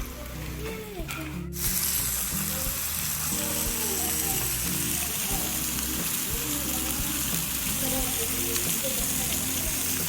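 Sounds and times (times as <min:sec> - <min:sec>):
background music: 0:00.0 - 0:10.0
meat sizzling on a grill: 0:00.0 - 0:10.0.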